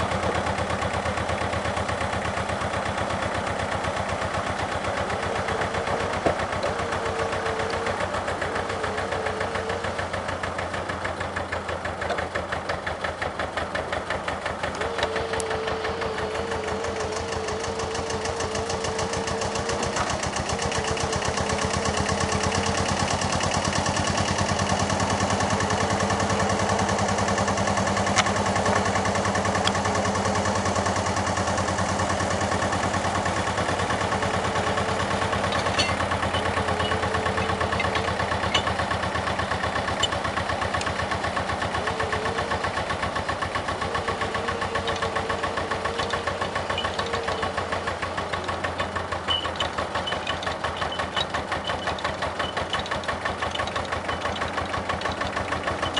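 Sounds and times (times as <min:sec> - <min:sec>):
tractor diesel engine idling: 0:00.0 - 0:55.9.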